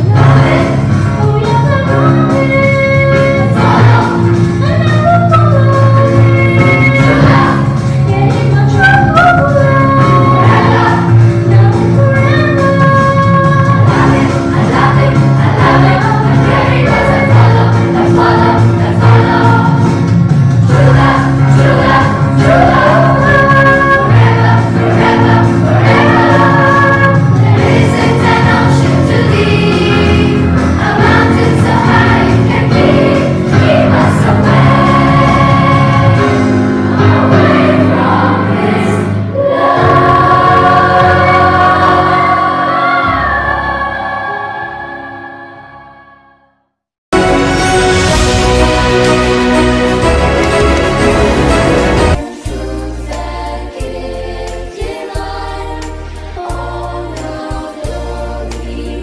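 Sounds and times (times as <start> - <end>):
choir of young voices singing: 0.0 - 46.4, 48.9 - 59.0.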